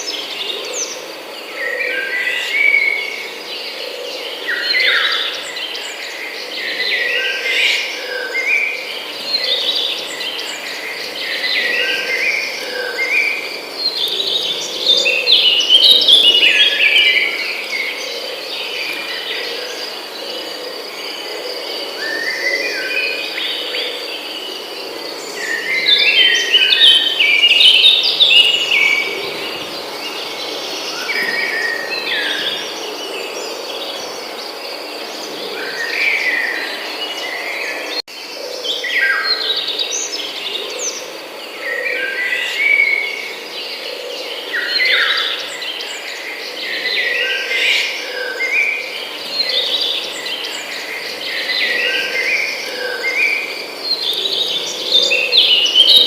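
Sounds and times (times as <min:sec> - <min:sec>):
birds singing and chirping: 0:00.0 - 0:56.0
high-pitched insect drone: 0:00.0 - 0:56.0.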